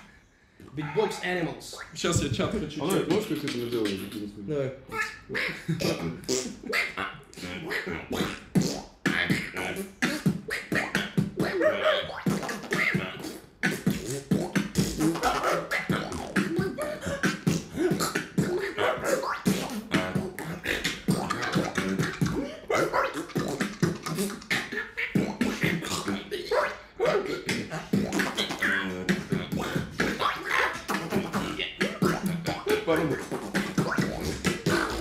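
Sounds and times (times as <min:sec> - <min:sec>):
person beatboxing: 0:00.0 - 0:35.0.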